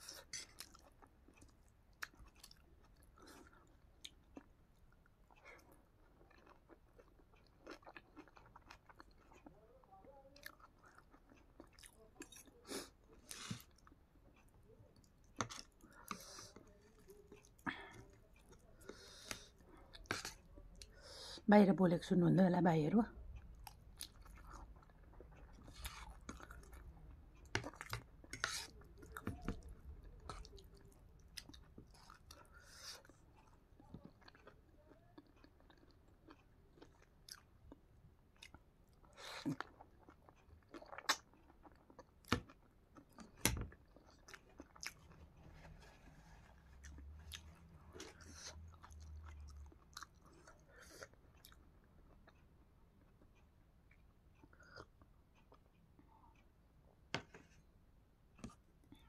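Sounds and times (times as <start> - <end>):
close-up chewing: 0.0 - 21.4, 23.2 - 56.4.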